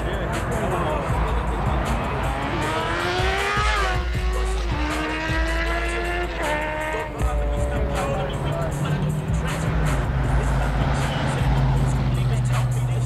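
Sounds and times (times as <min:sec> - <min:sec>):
bass-heavy music: 0:00.0 - 0:13.0
car engine revving: 0:00.0 - 0:13.0.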